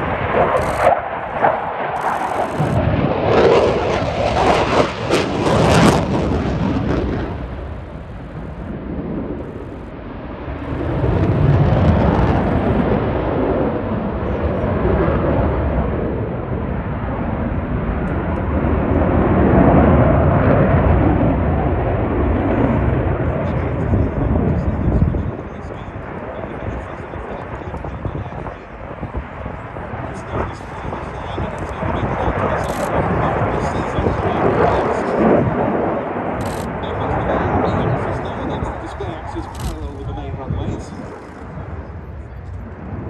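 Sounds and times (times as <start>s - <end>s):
loud jet noise: 0.0s - 43.0s.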